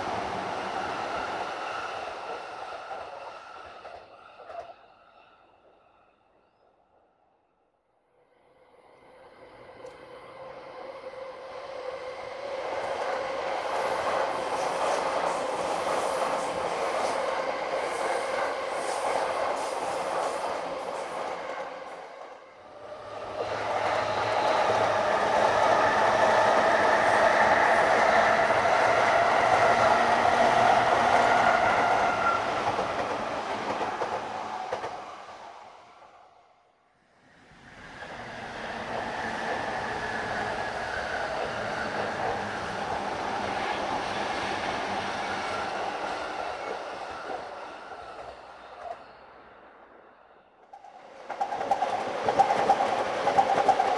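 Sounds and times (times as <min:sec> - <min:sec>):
electric trains passing: 0:00.0 - 0:06.7, 0:08.1 - 0:36.4, 0:37.0 - 0:53.9.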